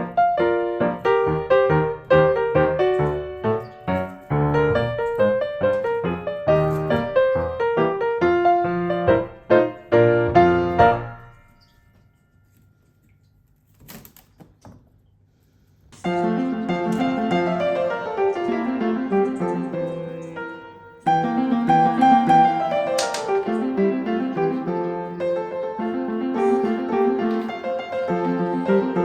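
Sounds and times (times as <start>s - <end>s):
background piano music: 0.0s - 13.1s, 16.0s - 29.0s.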